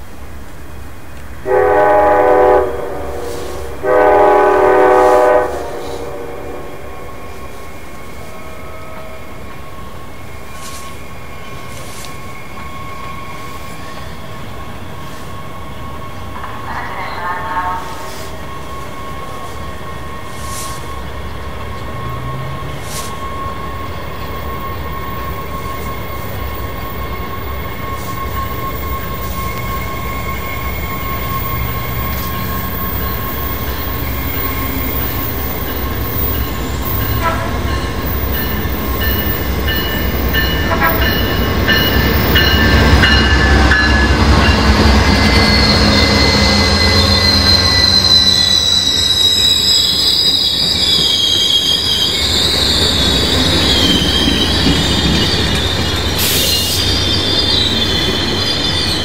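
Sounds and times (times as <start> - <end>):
diesel locomotive engine: 0.0 - 59.0
train wheel noise: 0.0 - 59.0
high metallic wheel squeal: 6.9 - 59.0.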